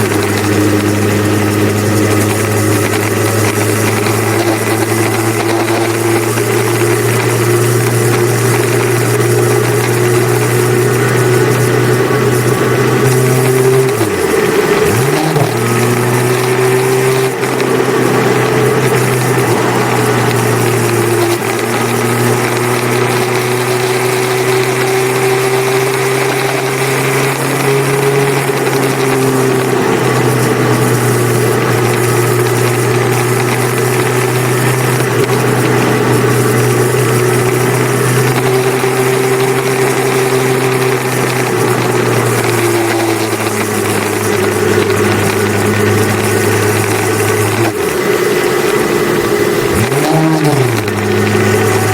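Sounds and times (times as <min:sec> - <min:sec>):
motorcycle engine running: 0:00.0 - 0:51.9
wind and road noise: 0:00.0 - 0:51.9.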